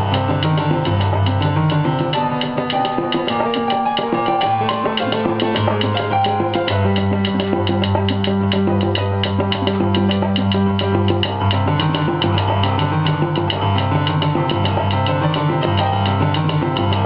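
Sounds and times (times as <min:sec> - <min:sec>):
salsa music with latin percussion: 0:00.0 - 0:17.0.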